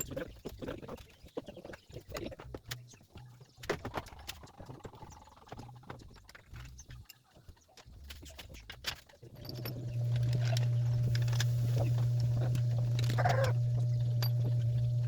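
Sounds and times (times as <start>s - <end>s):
tools and metal parts clicking: 2.0s - 15.0s.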